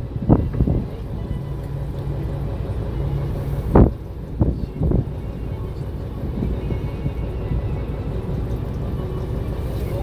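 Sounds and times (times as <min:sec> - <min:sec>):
boat engine rumble: 0:00.0 - 0:10.0
faint background music: 0:00.0 - 0:10.0.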